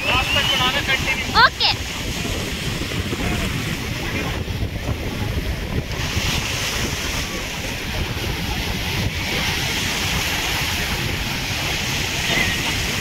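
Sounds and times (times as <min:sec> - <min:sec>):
sea surf breaking and washing: 0:00.0 - 0:13.0
wind buffeting microphone: 0:00.0 - 0:13.0.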